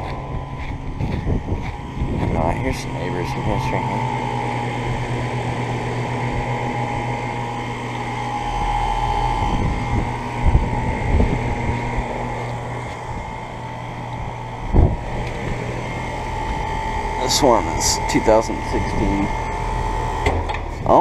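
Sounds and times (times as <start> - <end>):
compressor hum: 0.0 - 21.0
condenser fans whirring: 0.0 - 21.0.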